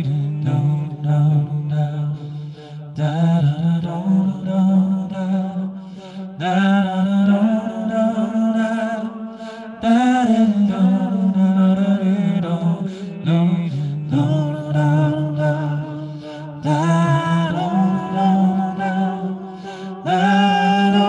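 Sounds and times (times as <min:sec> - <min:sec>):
man singing chant-like notes: 0:00.0 - 0:21.0.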